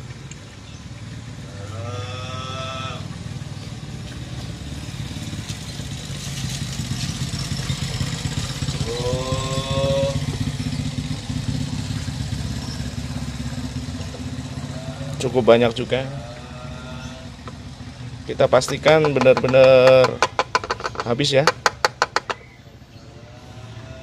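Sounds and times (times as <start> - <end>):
engine running steadily: 0.0 - 24.0
drawn-out wavering calls: 1.4 - 3.5, 5.9 - 24.0.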